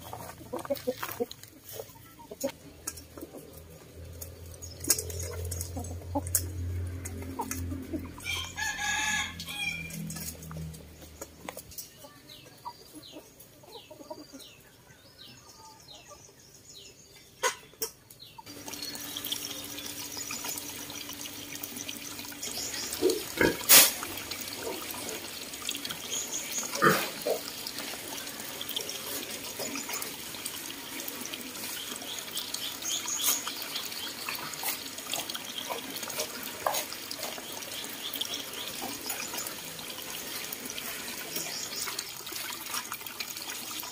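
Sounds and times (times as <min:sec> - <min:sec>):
running water: 0:00.0 - 0:12.4, 0:18.5 - 0:43.9
chickens clucking: 0:00.0 - 0:16.4, 0:17.2 - 0:42.1.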